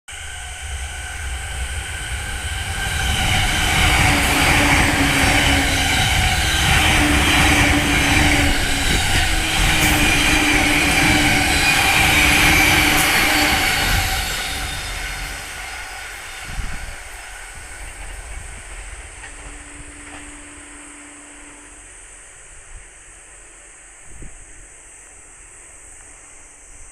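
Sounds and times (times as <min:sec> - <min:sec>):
train motor hum: 0:00.1 - 0:26.2
train wheels on rail: 0:00.1 - 0:26.9.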